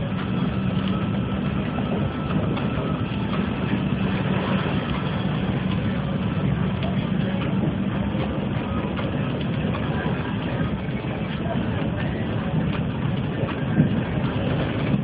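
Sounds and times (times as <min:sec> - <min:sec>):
diesel engine low hum: 0:00.0 - 0:15.0.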